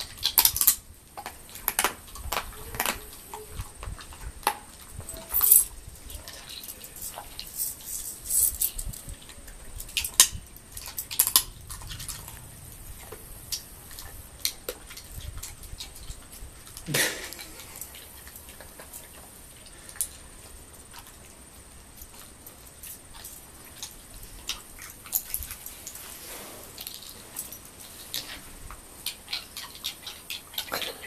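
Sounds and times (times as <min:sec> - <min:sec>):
dog crunching nut shells: 0:00.0 - 0:26.2, 0:26.8 - 0:31.0.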